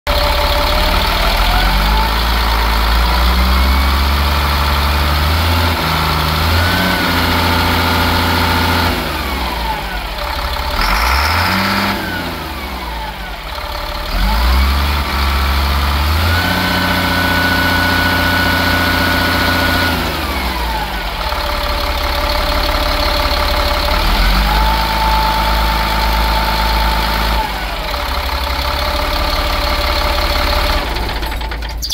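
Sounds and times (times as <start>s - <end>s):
truck diesel engine revving: 0.1s - 31.9s.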